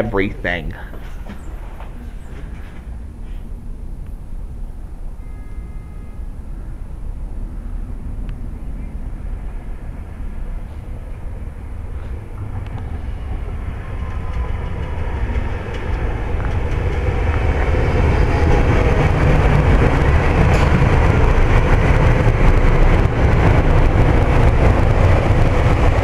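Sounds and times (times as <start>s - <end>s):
train pulling into station: 0.0s - 26.0s.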